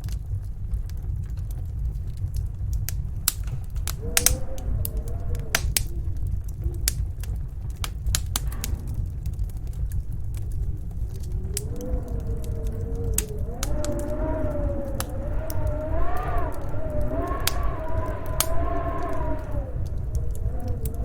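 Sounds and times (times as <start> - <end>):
snowstorm wind rumbling: 0.0 - 21.0
wood fire crackling and popping: 0.0 - 21.0
wind howling: 0.2 - 21.0.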